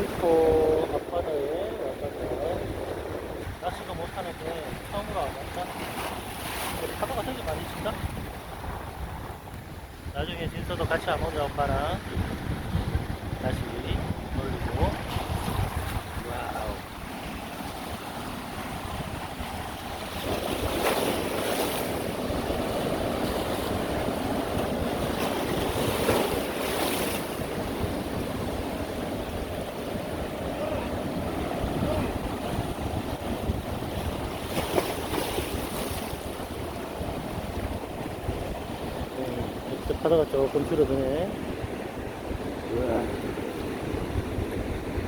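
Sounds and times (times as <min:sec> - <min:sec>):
ocean surf crashing: 0:00.0 - 0:45.0.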